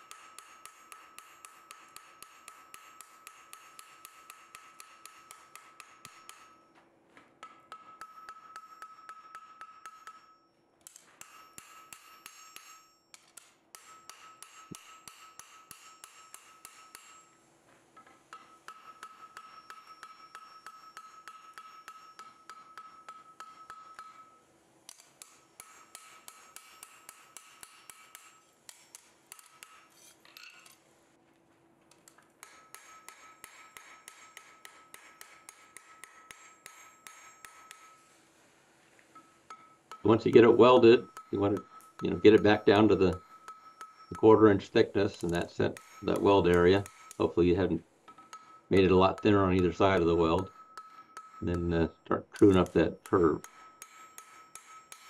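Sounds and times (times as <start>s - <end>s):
anvil ringing: 0.0s - 6.8s, 7.4s - 17.4s, 18.0s - 30.8s, 32.4s - 38.1s, 39.1s - 55.0s
hammer striking steel on anvil: 0.0s - 17.4s, 18.0s - 30.8s, 31.9s - 38.2s, 39.1s - 55.0s.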